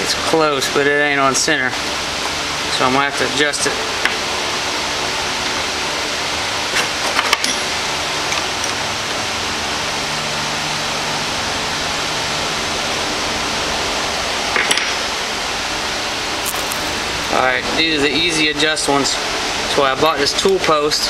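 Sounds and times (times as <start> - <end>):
workshop background hiss: 0.0 - 21.0.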